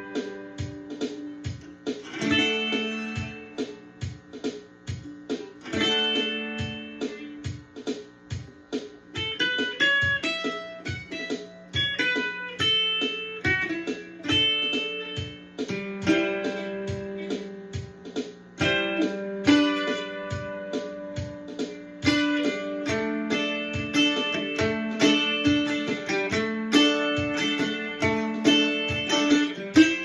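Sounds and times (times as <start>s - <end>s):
mandolin picked runs and strums: 0.0s - 30.0s.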